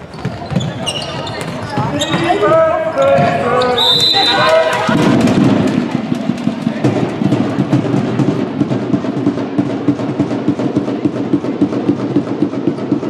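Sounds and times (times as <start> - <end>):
drum thumps: 1.4 - 13.0.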